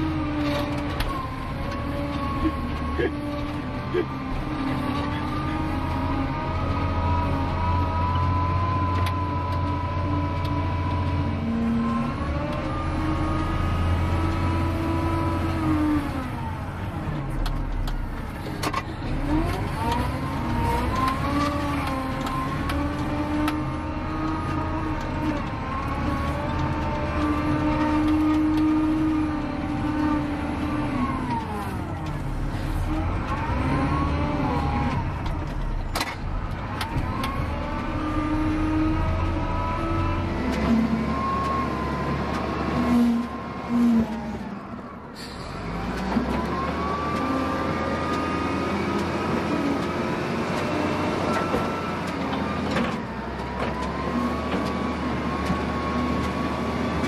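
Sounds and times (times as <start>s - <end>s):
diesel engine revving under load: 0.0s - 57.0s.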